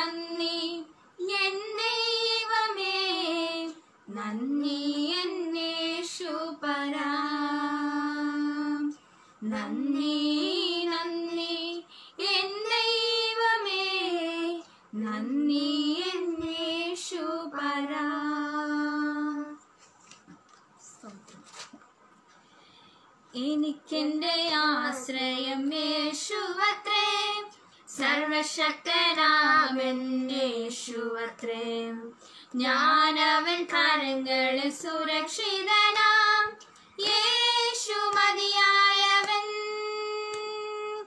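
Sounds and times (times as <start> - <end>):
two women singing unaccompanied: 0.0 - 19.8, 23.3 - 41.0.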